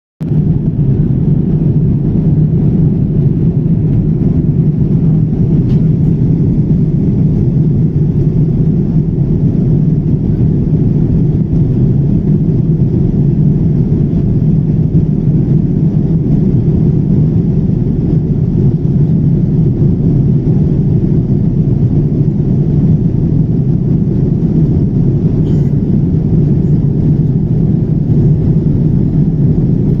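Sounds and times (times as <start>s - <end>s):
airplane engine rumble: 0.2s - 30.0s.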